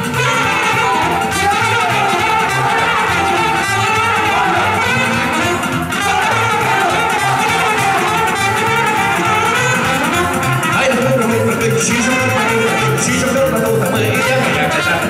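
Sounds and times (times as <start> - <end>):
amplified band music: 0.0 - 15.0
trumpet playing melody: 0.0 - 15.0.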